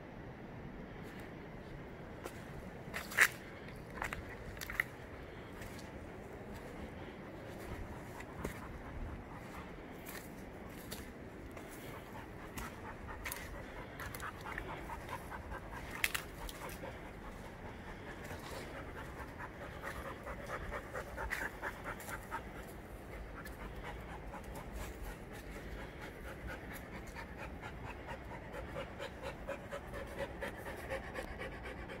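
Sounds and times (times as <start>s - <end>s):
dog panting: 4.0s - 32.0s.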